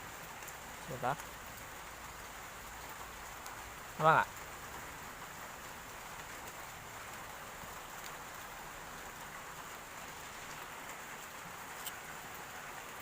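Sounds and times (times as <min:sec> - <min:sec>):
steady hissing noise: 0:00.0 - 0:13.0.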